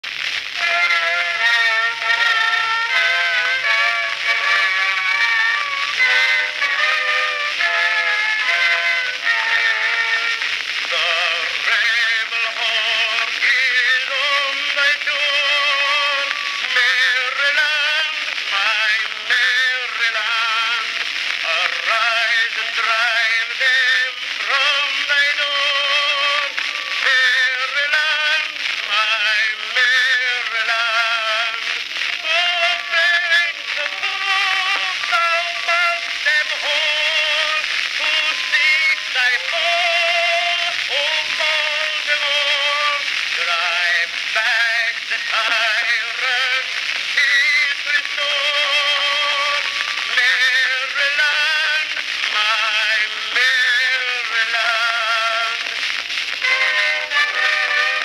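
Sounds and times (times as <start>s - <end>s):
steady hiss: 0.0s - 58.0s
tinny phonograph singing: 0.0s - 58.0s.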